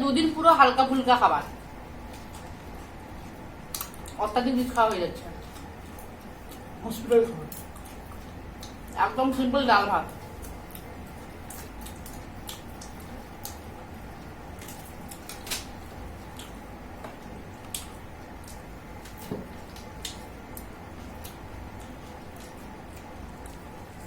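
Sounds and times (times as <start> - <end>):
low background noise: 0.0 - 24.0
small eating clicks: 1.6 - 24.0
people chewing: 1.8 - 9.0, 10.1 - 24.0.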